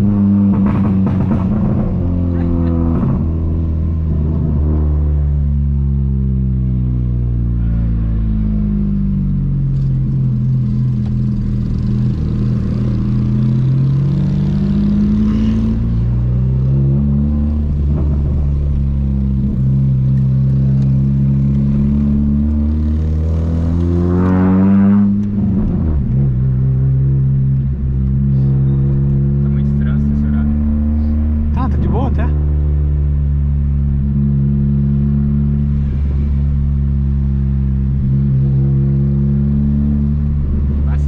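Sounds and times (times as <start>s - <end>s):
car engine revving while driving: 0.0s - 41.0s.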